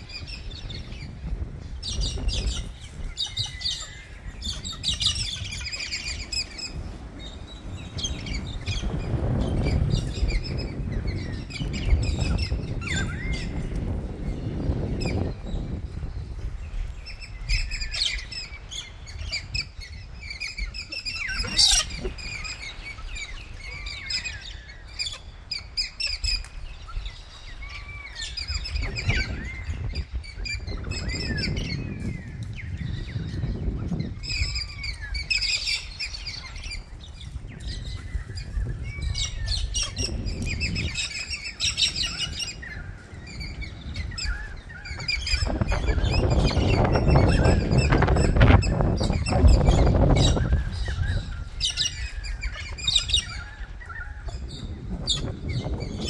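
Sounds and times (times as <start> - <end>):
flock of birds chirping: 0.0 - 56.0.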